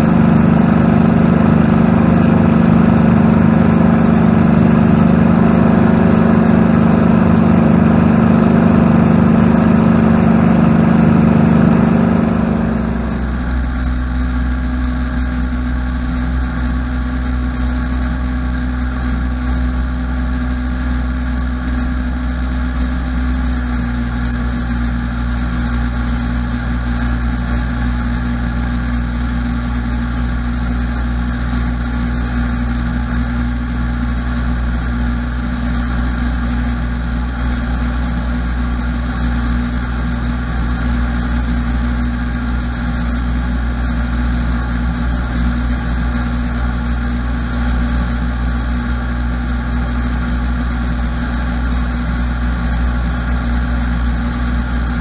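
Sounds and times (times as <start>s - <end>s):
aircraft engine hum: 0.0s - 55.0s
piston aircraft engine running: 0.0s - 55.0s.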